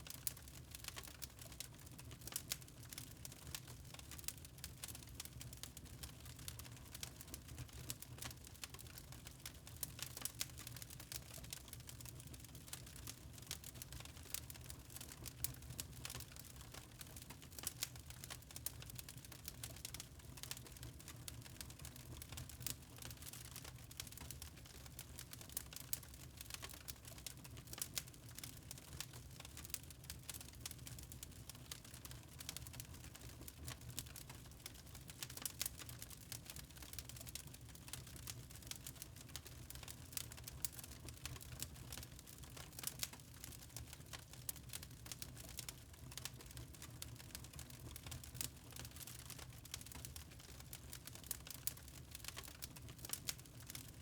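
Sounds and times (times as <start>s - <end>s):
wood fire crackling: 0.1s - 54.0s.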